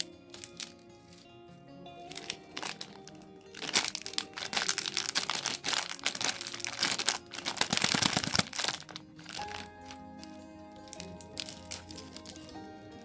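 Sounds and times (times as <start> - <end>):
plastic wrapper crinkling: 0.0 - 1.3, 2.1 - 12.6.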